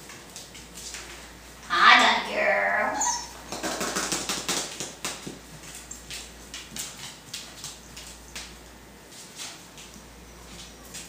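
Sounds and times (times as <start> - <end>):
puppies' paws clicking and tapping: 0.0 - 11.0.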